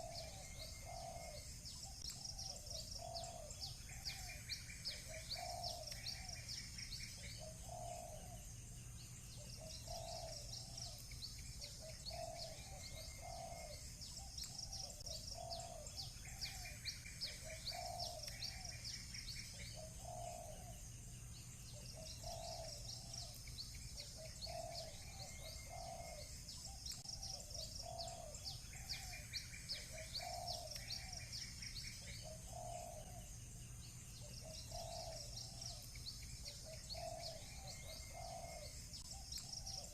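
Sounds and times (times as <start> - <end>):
doves cooing: 0.0 - 8.5, 9.3 - 20.9, 21.7 - 33.4, 34.2 - 39.9
small birds chirping: 0.0 - 39.9.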